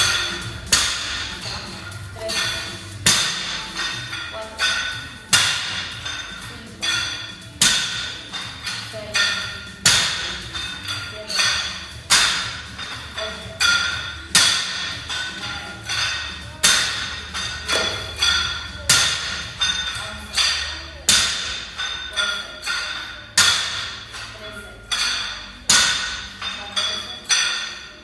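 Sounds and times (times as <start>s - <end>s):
bar and plates clinking: 0.0s - 28.0s
barbell hitting floor with metallic ring: 0.0s - 28.0s.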